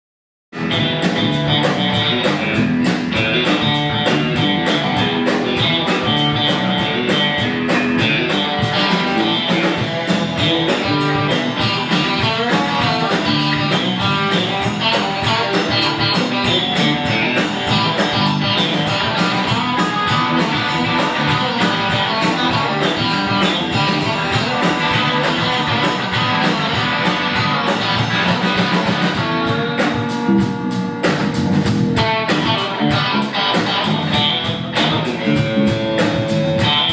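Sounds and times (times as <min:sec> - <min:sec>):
drums keeping a steady beat: 0:00.5 - 0:36.9
rock band guitar: 0:00.5 - 0:36.9.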